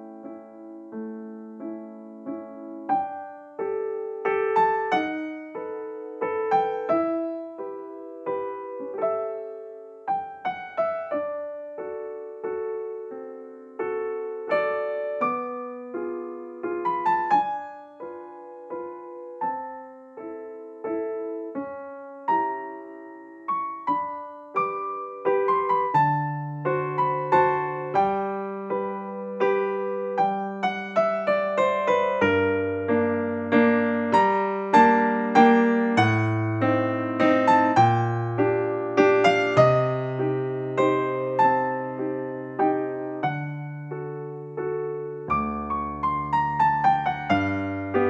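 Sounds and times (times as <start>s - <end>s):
gentle piano melody: 0.0s - 48.0s.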